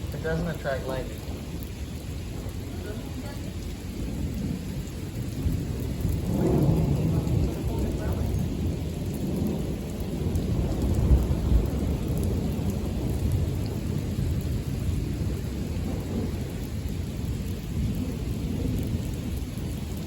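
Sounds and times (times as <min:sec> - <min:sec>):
heavy rain: 0:00.0 - 0:20.0
thunder rumbling: 0:00.0 - 0:20.0.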